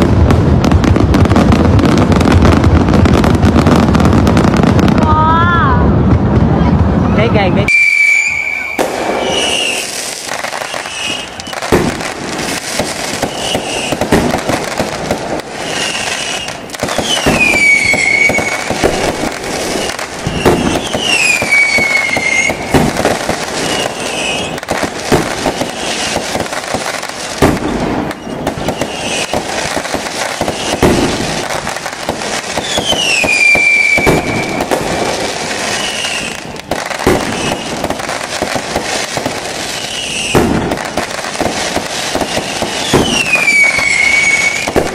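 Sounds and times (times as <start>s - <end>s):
fireworks crackling: 0.0s - 44.9s
falling firework whistles: 7.7s - 44.9s
firework shells bursting: 7.7s - 44.9s.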